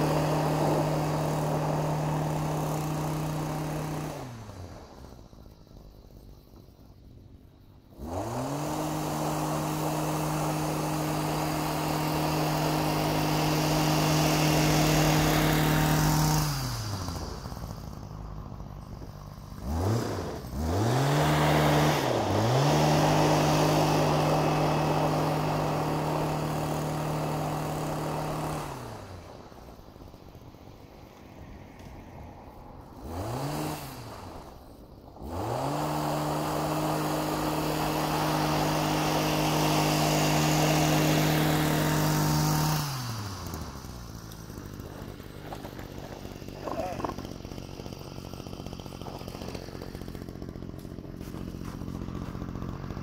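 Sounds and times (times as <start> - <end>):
power broom engine revving: 0.0 - 6.7, 7.6 - 53.0.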